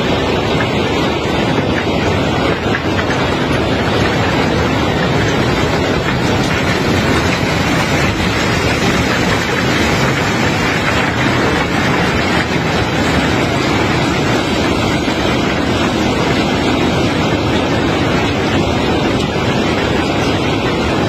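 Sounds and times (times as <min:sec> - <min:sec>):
loud rumbling of unloading machinery: 0:00.0 - 0:21.0.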